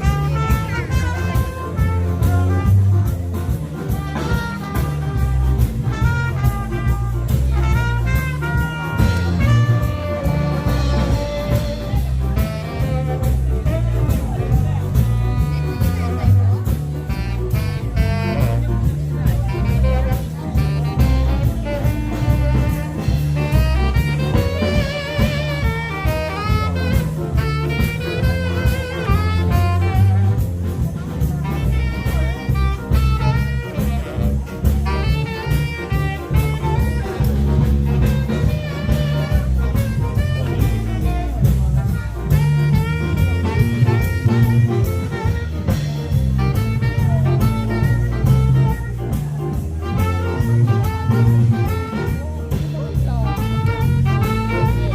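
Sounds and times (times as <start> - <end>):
bass line: 0.0 - 54.9
drums: 0.0 - 54.9
jazz horn melody: 0.0 - 54.9.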